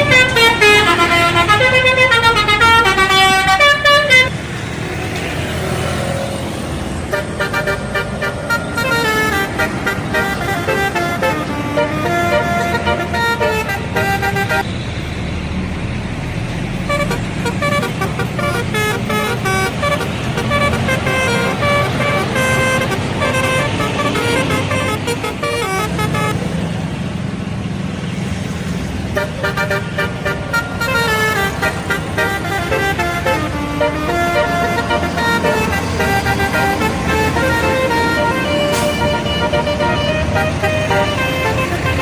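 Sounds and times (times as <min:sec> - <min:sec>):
multi-tone bus air horns: 0:00.0 - 0:04.5, 0:05.2 - 0:14.7, 0:16.8 - 0:26.4, 0:29.1 - 0:42.0
bus engines rumbling: 0:00.0 - 0:42.0.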